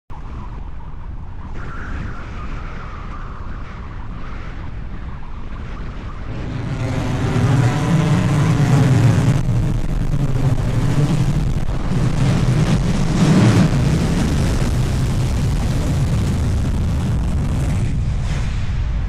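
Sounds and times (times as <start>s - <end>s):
rocket engines roaring: 1.0s - 19.0s.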